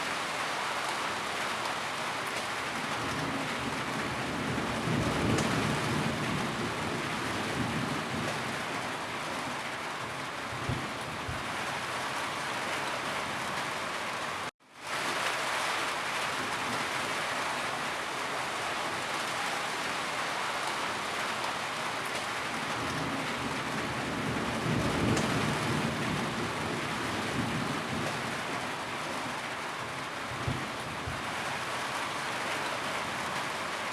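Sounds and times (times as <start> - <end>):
heavy rainfall: 0.0 - 33.9.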